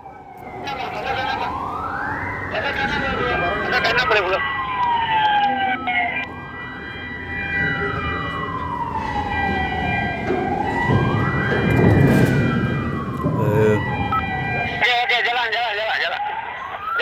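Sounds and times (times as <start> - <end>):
wailing siren: 0.0 - 17.0.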